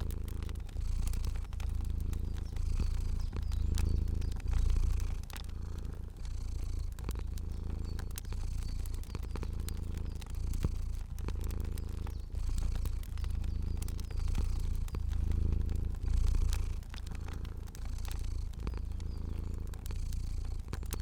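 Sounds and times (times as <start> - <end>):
cat purring: 0.0 - 21.0
fire crackling: 0.0 - 21.0.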